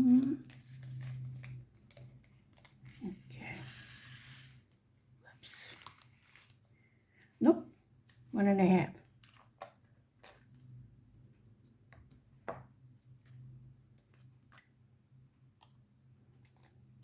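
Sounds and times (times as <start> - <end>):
plastic jars and bags handled: 0.0 - 8.3, 8.9 - 14.9.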